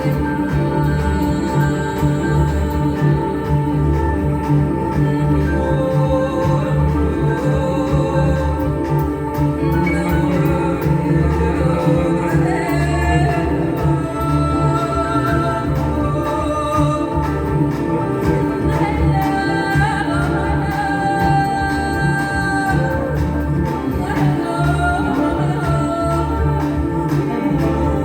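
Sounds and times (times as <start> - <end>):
folk choir singing: 0.0 - 28.0.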